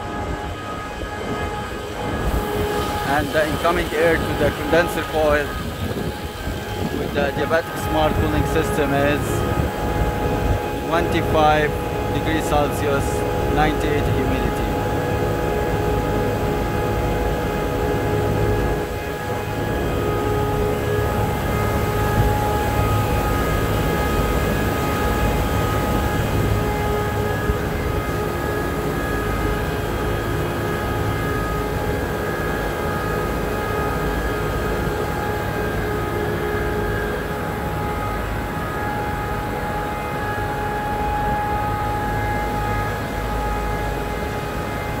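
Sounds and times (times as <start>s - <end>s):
chillers droning with whining tones: 0.0s - 45.0s.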